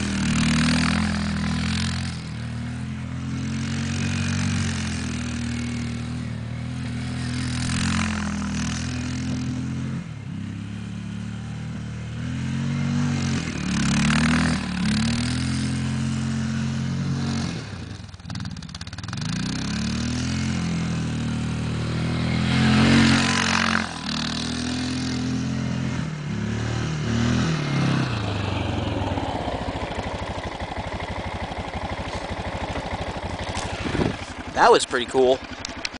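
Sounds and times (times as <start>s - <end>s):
quad engine revving: 0.0s - 35.9s.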